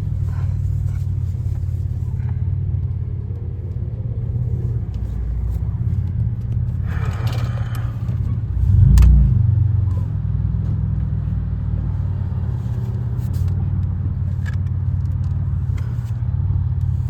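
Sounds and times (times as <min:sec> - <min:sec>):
car engine droning at low revs: 0:00.0 - 0:17.0.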